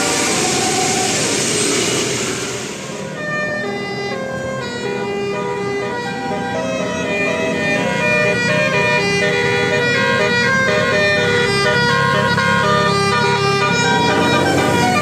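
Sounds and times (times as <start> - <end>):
bus engine rumble: 0.0 - 15.0
musical bus horn melody: 2.9 - 15.0.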